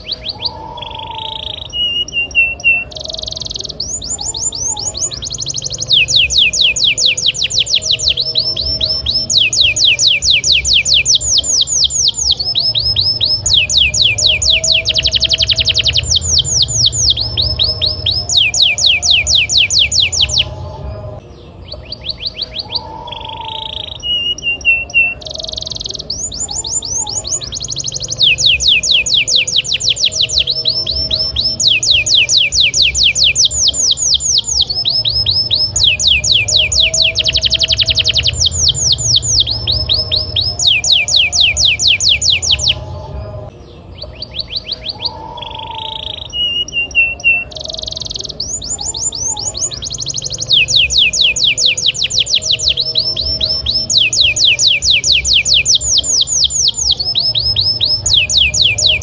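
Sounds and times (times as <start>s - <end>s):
canary singing in rolling trills: 0.0s - 59.0s.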